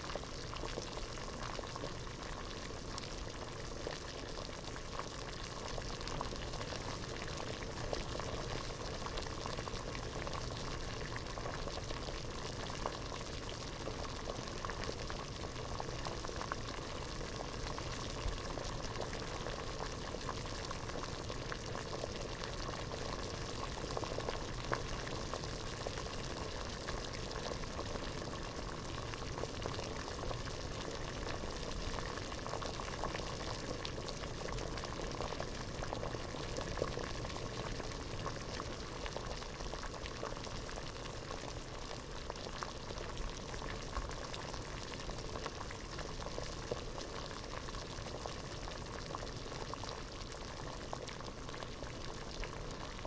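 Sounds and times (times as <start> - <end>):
water boiling hard in a pot: 0.0 - 53.0.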